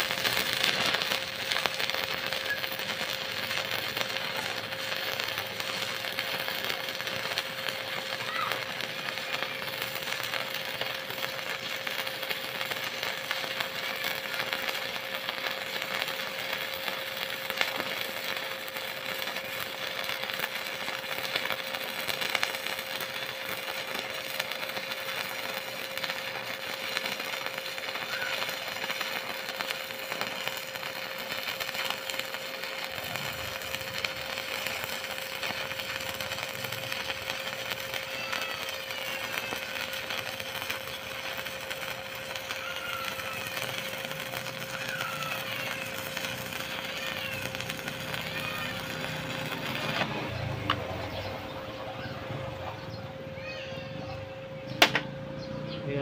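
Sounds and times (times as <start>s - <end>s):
welding arc crackling and sizzling: 0.0s - 56.0s.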